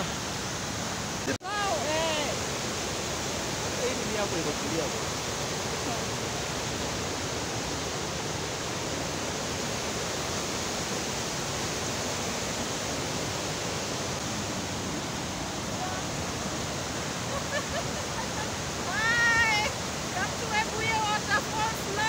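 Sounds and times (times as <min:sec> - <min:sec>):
waterfall and rapids rushing: 0:00.0 - 0:22.0.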